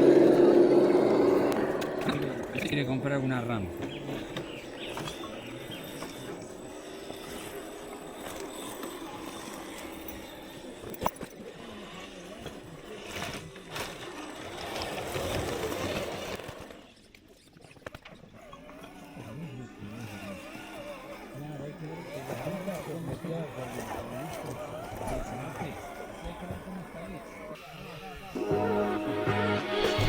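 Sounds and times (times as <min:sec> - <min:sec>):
rc car electric motor: 0:00.0 - 0:28.7
tyres and chassis scraping: 0:00.0 - 0:30.0.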